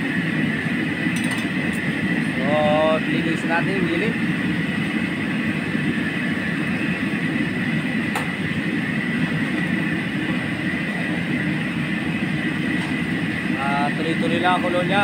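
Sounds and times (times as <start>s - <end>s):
gas burner roaring: 0.0s - 15.0s.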